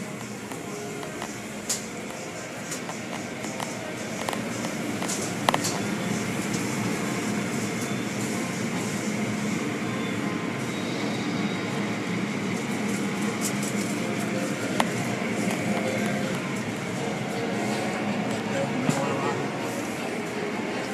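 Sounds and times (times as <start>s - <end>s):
car wash machinery rumble and hiss: 0.0s - 20.9s.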